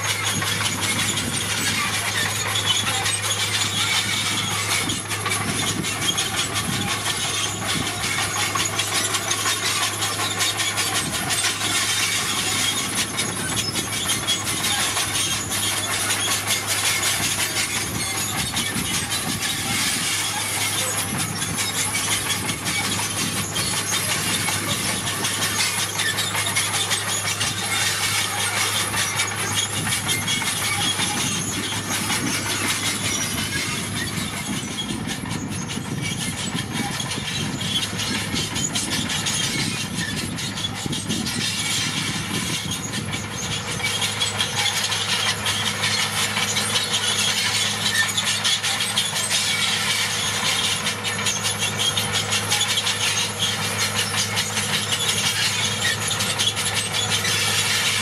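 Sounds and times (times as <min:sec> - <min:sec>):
bulldozer engine hum: 0:00.0 - 0:58.0
steel tracks clattering: 0:00.0 - 0:58.0.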